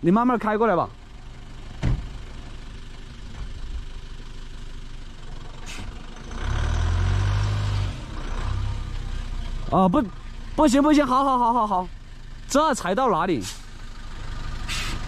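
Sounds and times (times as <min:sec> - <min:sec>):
truck engine running at low speed: 0:00.0 - 0:15.0.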